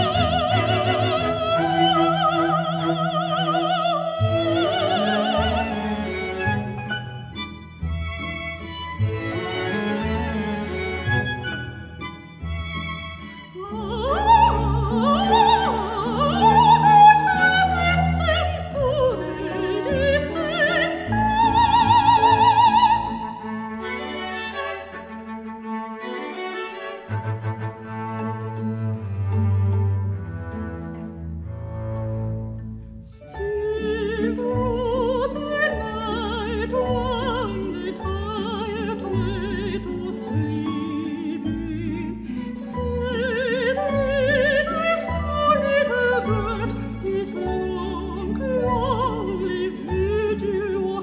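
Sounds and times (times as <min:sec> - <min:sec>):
soprano singing: 0:00.0 - 0:31.5, 0:32.3 - 0:51.0
orchestra playing: 0:00.0 - 0:51.0.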